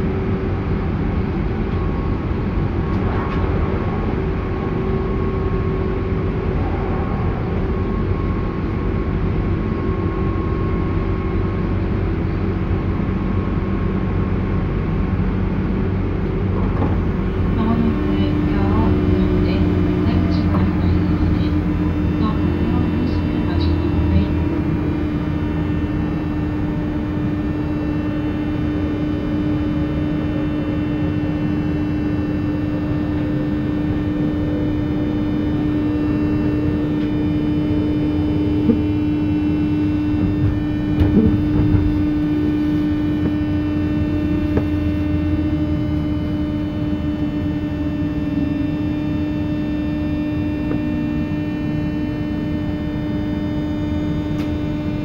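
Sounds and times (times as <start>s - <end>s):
electric train interior hum: 0.0s - 55.0s.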